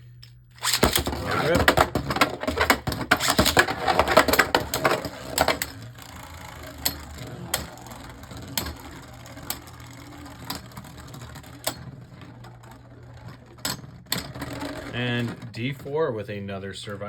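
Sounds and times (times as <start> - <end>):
spinning tops colliding clacks: 0.6 - 15.9
spinning tops rattling: 0.6 - 17.0.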